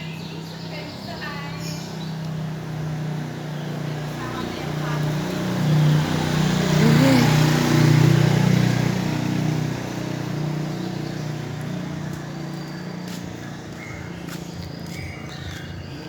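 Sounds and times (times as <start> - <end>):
vehicle passing by: 0.7 - 16.0.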